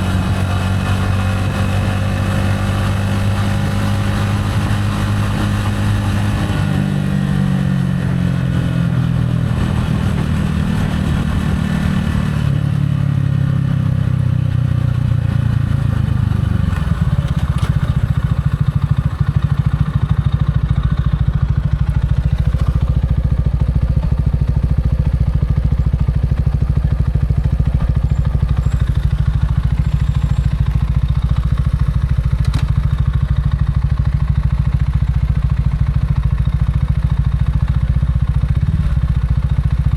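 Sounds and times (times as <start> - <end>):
motorcycle engine slowing and idling: 0.0 - 39.9.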